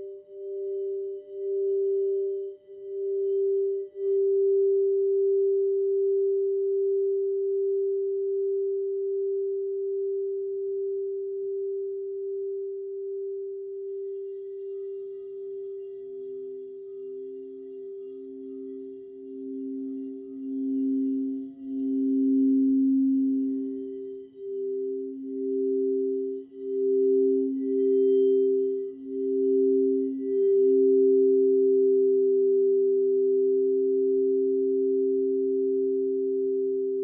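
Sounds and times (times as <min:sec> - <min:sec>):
lower singing bowl pulsing: 0:00.0 - 0:37.0
singing bowl sustained tone: 0:00.0 - 0:37.0.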